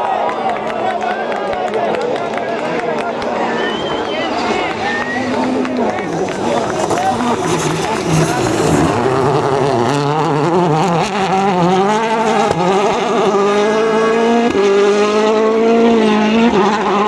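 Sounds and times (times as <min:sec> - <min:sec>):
rally car engine accelerating hard: 0:00.1 - 0:17.0.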